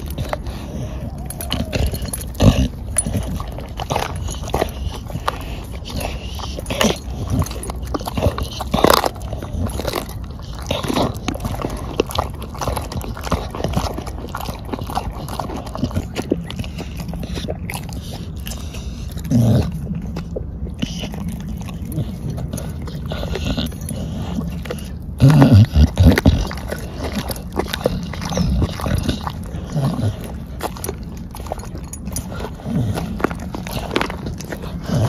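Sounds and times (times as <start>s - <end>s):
dog chewing and crunching bones: 0.0s - 35.0s.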